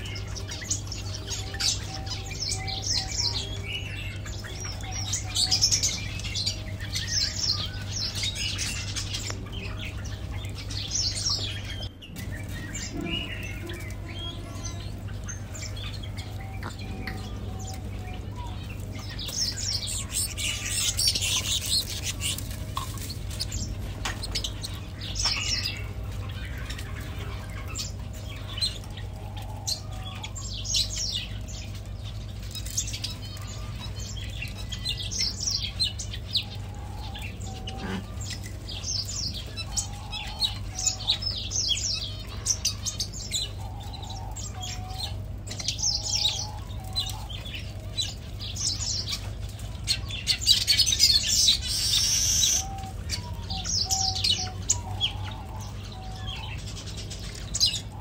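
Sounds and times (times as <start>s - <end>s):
songbirds chirping and twittering: 0.0s - 58.0s
steady low hum: 0.0s - 58.0s.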